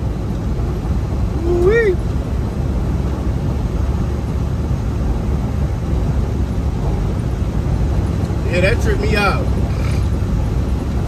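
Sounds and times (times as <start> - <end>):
truck engine rumble from cab: 0.0 - 11.0.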